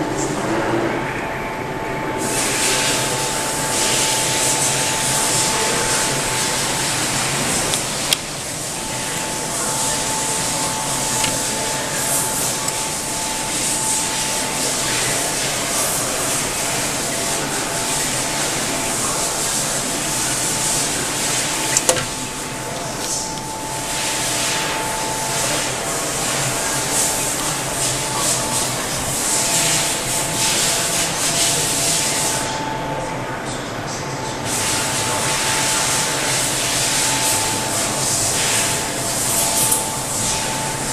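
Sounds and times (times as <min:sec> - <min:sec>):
high whine: 0:00.0 - 0:40.9
printing press machine hum: 0:00.0 - 0:40.9.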